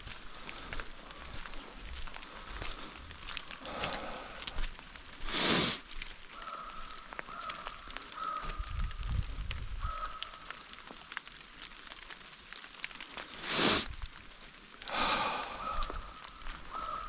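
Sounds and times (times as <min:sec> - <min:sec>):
rain dripping on leaves: 0:00.0 - 0:17.0.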